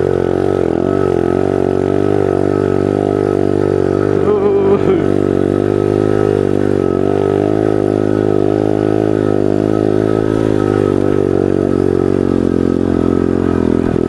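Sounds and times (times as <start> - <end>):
pit bike engine revving: 0.0 - 14.0.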